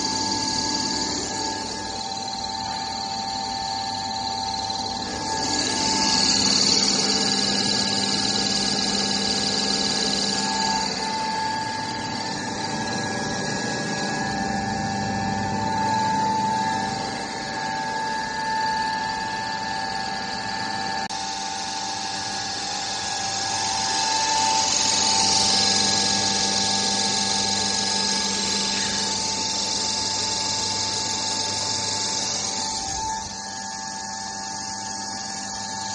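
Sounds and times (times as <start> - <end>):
machine humming: 0.0 - 35.9
machine whining tones: 0.0 - 35.9.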